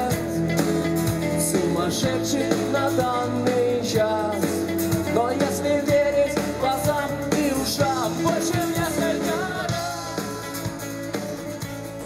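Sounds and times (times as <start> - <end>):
man singing: 0.0 - 0.6, 1.2 - 11.2
drums beating: 0.0 - 12.0
strummed acoustic guitar: 0.0 - 12.0.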